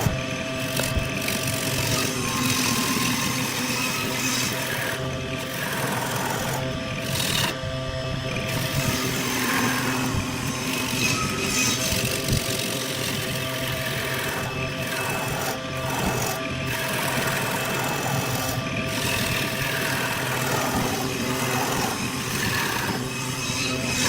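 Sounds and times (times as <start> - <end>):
tool scraping spinning wood: 0.0 - 24.0
wood lathe motor hum: 0.0 - 24.0.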